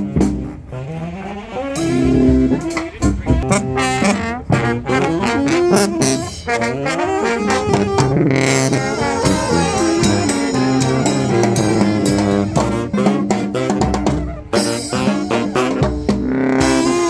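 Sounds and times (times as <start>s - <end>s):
brass band playing: 0.0s - 17.0s
saxophone: 0.0s - 17.0s
drum kit: 1.8s - 17.0s.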